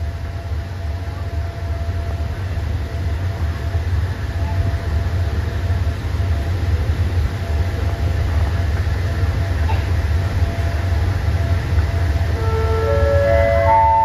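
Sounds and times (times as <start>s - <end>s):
diesel locomotive engine rumble: 0.0s - 14.0s
faint steady whine: 0.0s - 14.0s.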